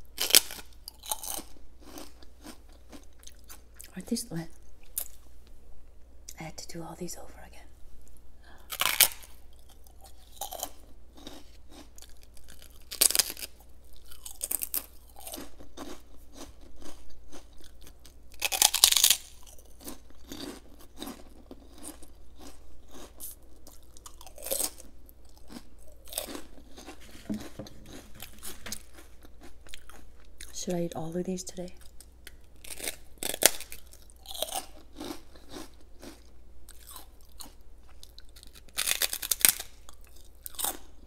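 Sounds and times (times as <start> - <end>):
crunchy crackers being chewed: 0.0 - 4.0, 4.6 - 5.2, 8.1 - 30.6, 31.8 - 41.0.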